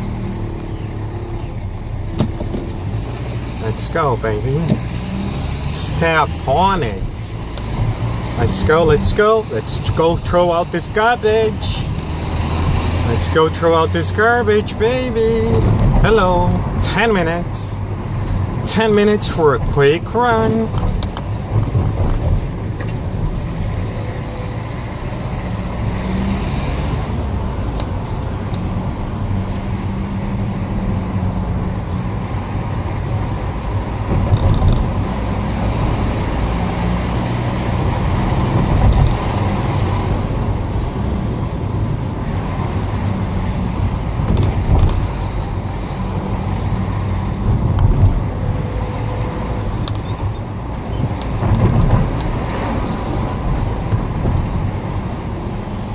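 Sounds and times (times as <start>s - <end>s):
car engine hum: 0.0s - 55.9s
road noise: 0.0s - 55.9s.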